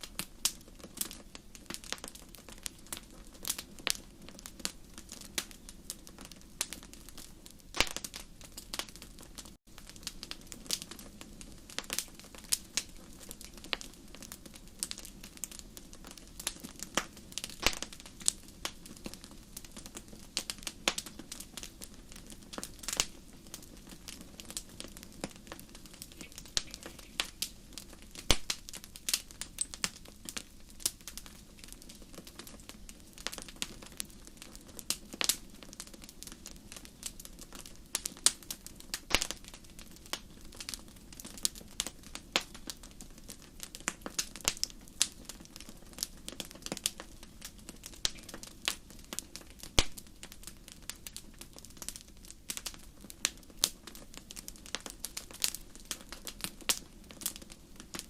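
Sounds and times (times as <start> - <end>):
low hiss of flames: 0.0 - 58.0
wood fire crackling and popping: 0.0 - 58.0.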